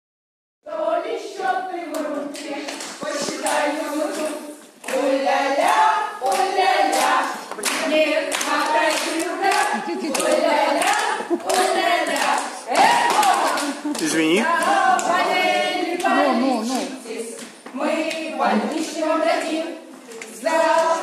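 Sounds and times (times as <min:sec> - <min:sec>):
women singing in chorus: 0:00.6 - 0:21.0
hands clapping: 0:01.9 - 0:19.4, 0:20.0 - 0:21.0.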